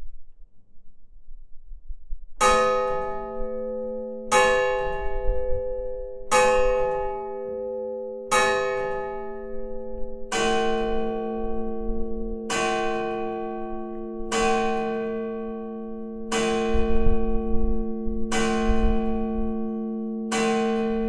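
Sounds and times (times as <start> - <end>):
hammer striking church bells: 2.4 - 21.0.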